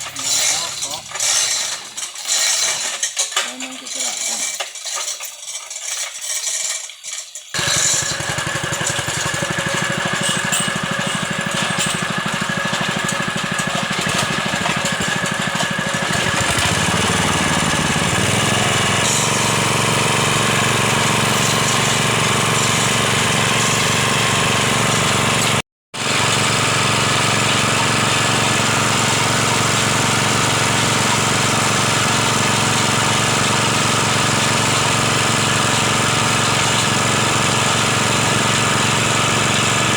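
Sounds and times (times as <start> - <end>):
small engine running: 7.5 - 39.9.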